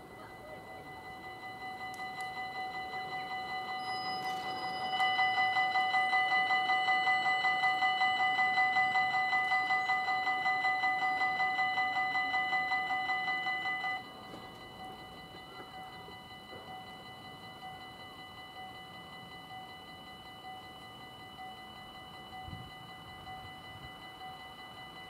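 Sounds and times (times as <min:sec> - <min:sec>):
level crossing warning bells ringing: 0:00.0 - 0:25.0.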